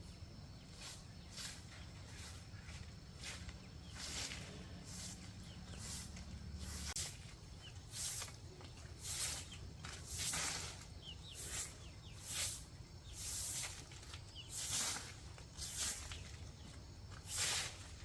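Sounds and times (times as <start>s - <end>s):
faint bird chirps: 0.0s - 18.0s
rustling brushing strokes: 0.0s - 18.0s.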